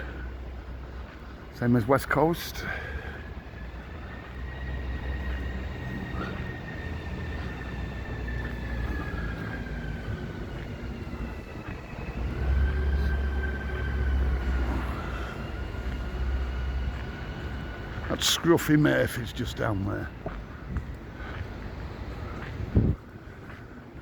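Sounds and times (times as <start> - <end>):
mechanical whine: 0.0 - 23.1.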